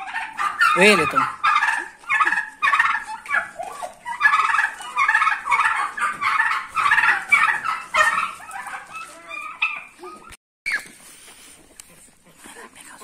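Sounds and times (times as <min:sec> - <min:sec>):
turkeys gobbling: 0:00.0 - 0:12.4.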